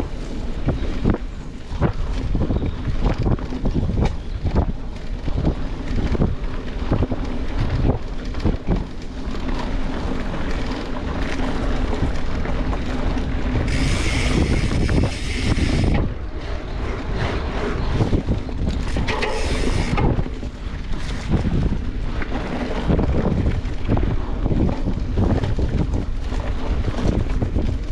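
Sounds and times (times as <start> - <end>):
low rumble: 0.0 - 27.9
wind buffeting microphone: 0.0 - 27.9
bike knocks and rattles: 0.1 - 27.9.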